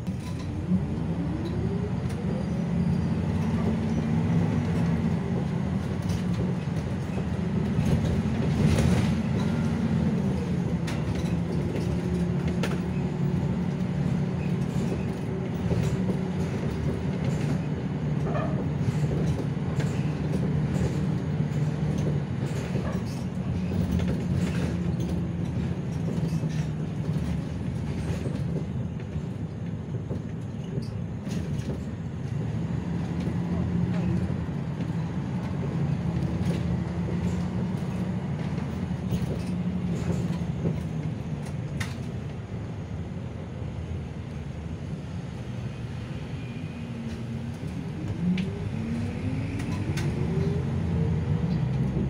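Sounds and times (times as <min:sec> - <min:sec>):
bus engine drone: 0:00.0 - 0:52.0.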